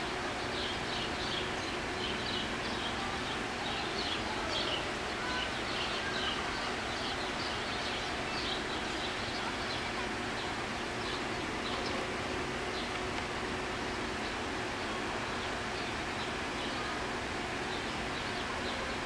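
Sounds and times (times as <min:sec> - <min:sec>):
small birds chirping: 0:00.3 - 0:19.0.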